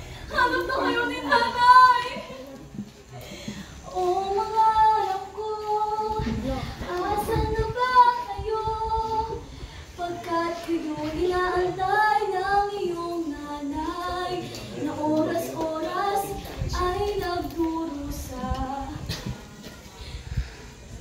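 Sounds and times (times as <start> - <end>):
girl singing unaccompanied: 0.0 - 2.6, 3.8 - 19.7.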